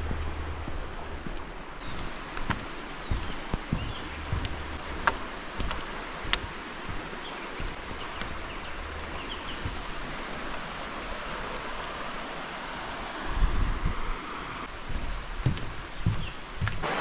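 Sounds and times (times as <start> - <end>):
footsteps on metal grating: 0.0 - 11.1, 13.6 - 17.0
steady rushing background: 0.0 - 11.9, 12.8 - 17.0.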